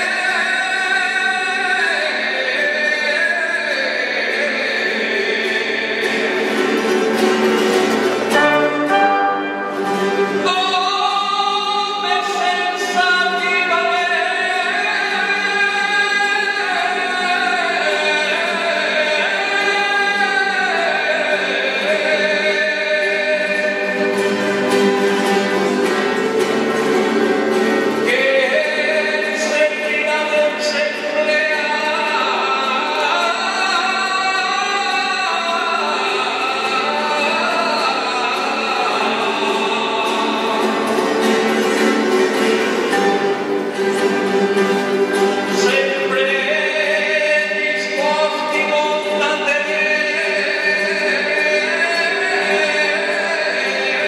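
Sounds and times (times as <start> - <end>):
man singing solo folk song: 0.0 - 54.0.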